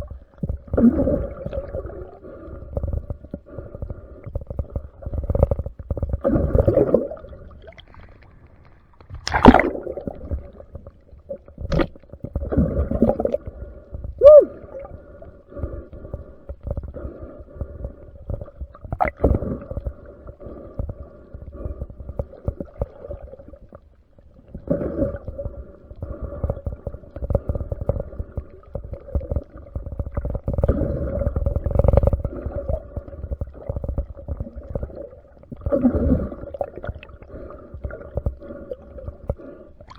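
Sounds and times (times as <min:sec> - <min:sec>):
low rumbling water noise: 0:00.0 - 0:39.9
underwater bubbling: 0:00.0 - 0:39.9.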